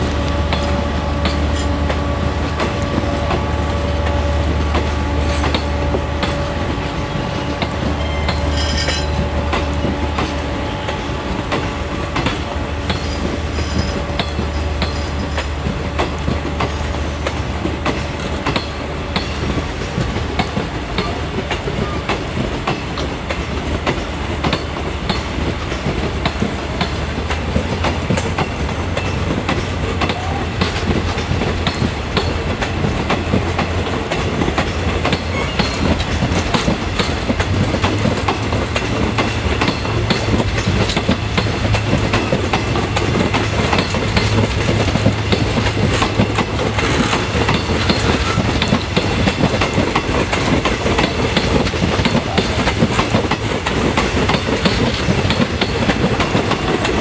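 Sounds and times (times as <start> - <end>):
train rumble: 0.0 - 57.0
train wheels clicking over rail joints: 0.0 - 57.0.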